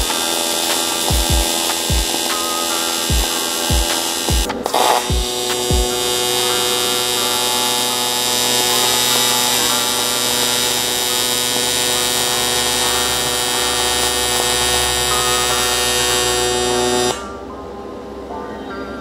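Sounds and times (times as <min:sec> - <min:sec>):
welding arc buzzing: 0:00.0 - 0:17.3.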